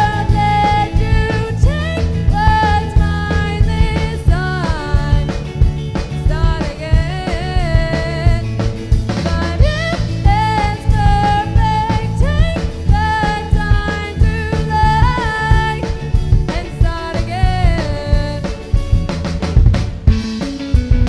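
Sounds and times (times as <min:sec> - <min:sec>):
pop band playing live: 0:00.0 - 0:21.0.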